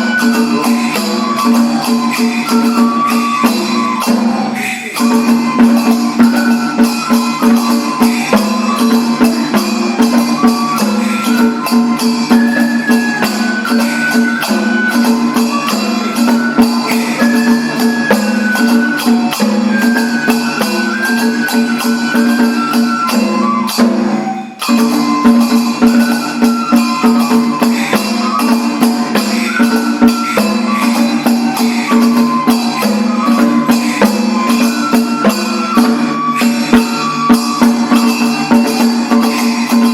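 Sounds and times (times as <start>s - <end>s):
drums: 0.0s - 39.9s
rapid jingling percussion: 0.0s - 39.9s.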